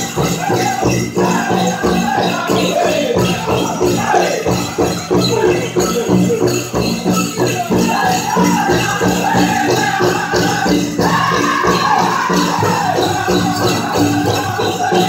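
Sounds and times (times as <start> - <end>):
bells jingling: 0.0 - 15.0
big drum beat: 0.0 - 15.0
group singing: 0.0 - 15.0
high lead voice singing: 0.0 - 15.0.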